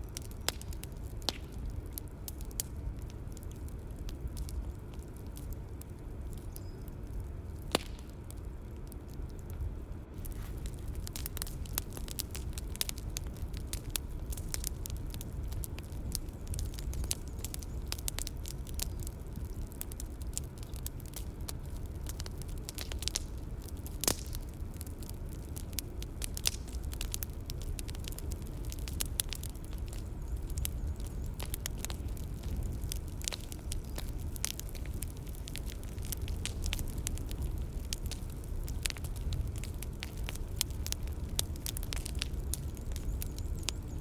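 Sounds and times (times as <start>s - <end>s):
bonfire crackling and popping: 0.0s - 44.0s
low rumble of flames: 0.0s - 44.0s.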